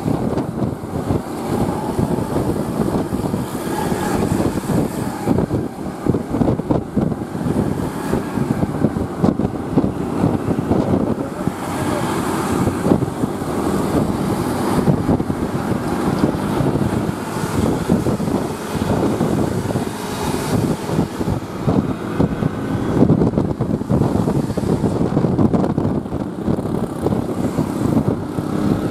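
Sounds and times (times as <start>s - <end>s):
bus diesel engine rumbling: 0.0s - 28.9s
wind buffeting microphone: 0.0s - 28.9s.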